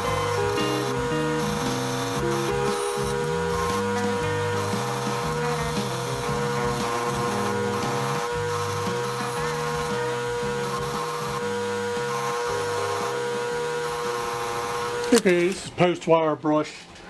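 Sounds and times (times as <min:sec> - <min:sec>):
wire wheel whining on metal: 0:00.0 - 0:15.7.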